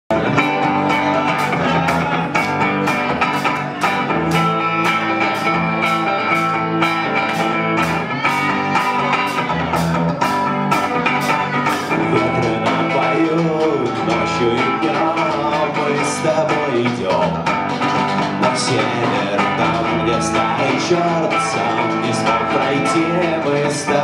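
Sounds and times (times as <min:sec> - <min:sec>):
drum kit steady beat: 0:00.1 - 0:24.0
electric guitar: 0:00.1 - 0:24.0.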